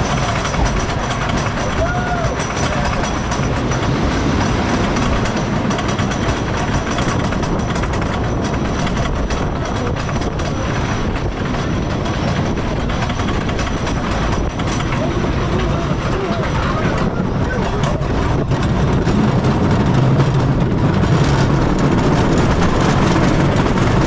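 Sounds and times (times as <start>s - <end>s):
rails clattering: 0.0s - 24.0s
roller coaster wheels rumbling: 0.0s - 24.0s.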